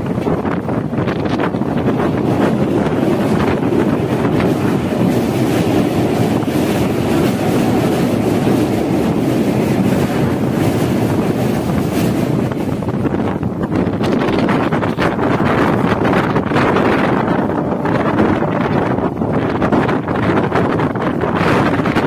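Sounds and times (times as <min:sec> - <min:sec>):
train rumbling over bridge: 0:00.0 - 0:22.0
wind buffeting microphone: 0:00.0 - 0:22.0.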